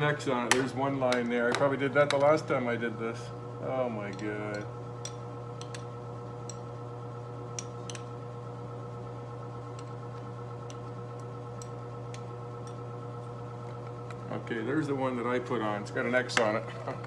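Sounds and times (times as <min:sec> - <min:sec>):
furnace humming: 0:00.0 - 0:17.0.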